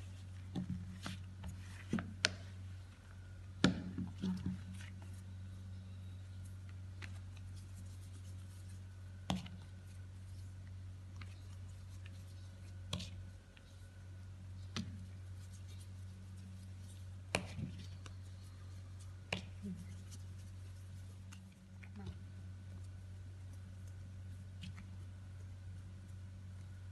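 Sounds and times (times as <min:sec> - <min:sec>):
hands shaping bread dough: 0:00.0 - 0:26.9
steady low hum: 0:00.0 - 0:26.9.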